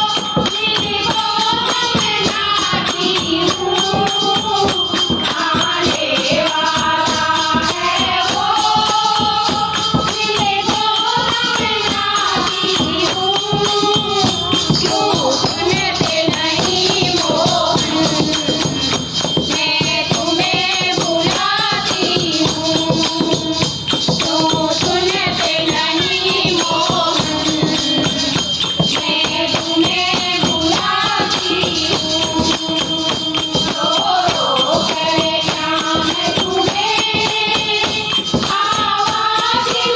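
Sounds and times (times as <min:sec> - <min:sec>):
dholak drum: 0:00.0 - 0:39.9
small hand cymbals: 0:00.0 - 0:39.9
women singing in unison: 0:00.0 - 0:39.9.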